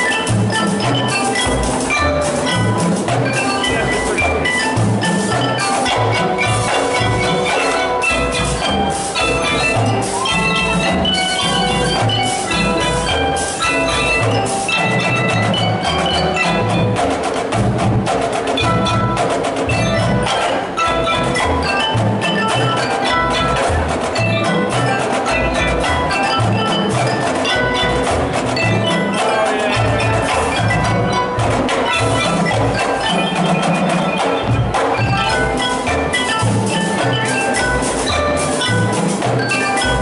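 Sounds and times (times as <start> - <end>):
mallet keyboard notes: 0.0 - 40.0
snare drum strokes: 0.0 - 40.0.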